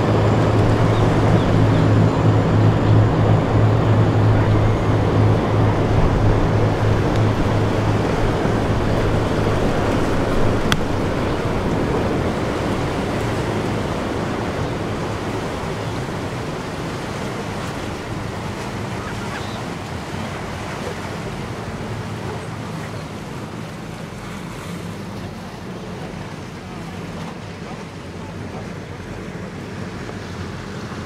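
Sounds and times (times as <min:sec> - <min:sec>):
sea waves rushing: 0:00.0 - 0:31.0
wind: 0:00.0 - 0:31.0.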